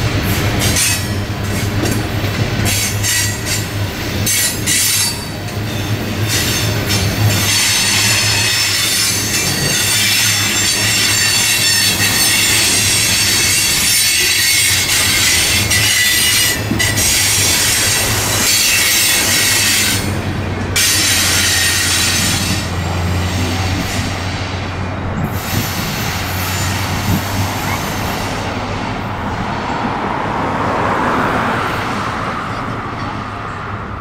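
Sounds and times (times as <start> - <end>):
train wheels squealing on rails: 0.0 - 29.4
low train rumble: 0.0 - 34.0.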